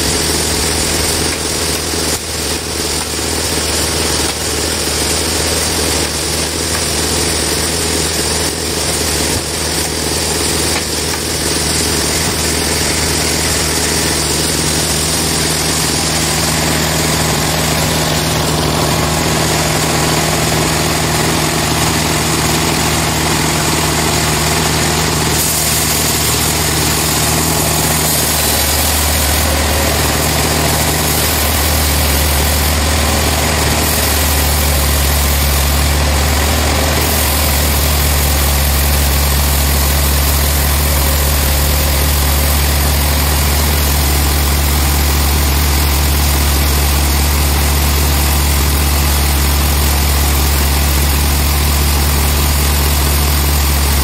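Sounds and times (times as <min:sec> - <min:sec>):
sawmill motor hum: 0:00.0 - 0:54.0.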